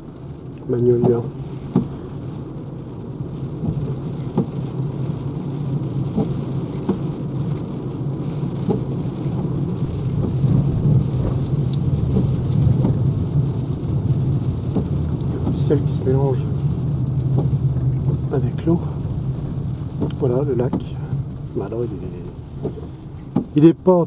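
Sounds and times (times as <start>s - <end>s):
heavy rain on car roof: 0.0s - 24.0s
raindrop taps: 0.4s - 24.0s.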